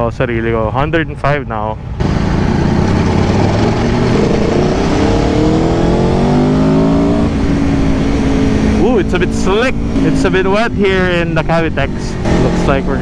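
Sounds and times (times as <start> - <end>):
wind and road noise: 0.0 - 13.0
motorcycle engine accelerating: 2.0 - 13.0.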